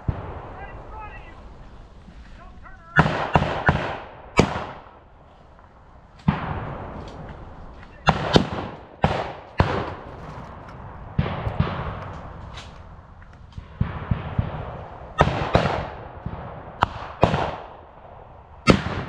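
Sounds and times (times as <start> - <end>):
rifle shots echoing: 0.0 - 1.6, 2.9 - 5.1, 6.2 - 19.0.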